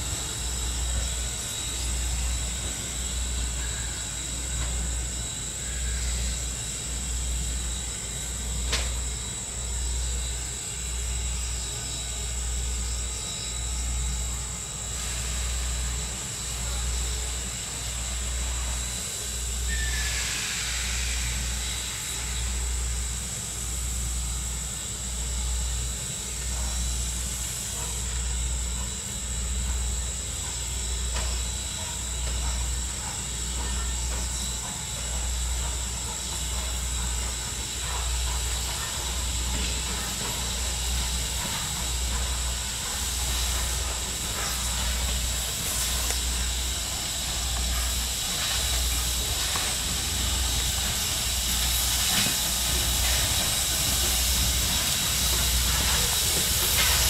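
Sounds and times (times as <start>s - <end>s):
steam locomotive hiss: 0.0s - 57.0s.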